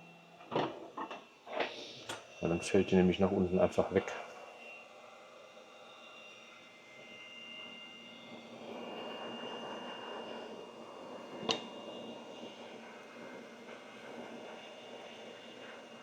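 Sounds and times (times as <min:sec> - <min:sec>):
hot-air station blowing: 0:00.0 - 0:16.0.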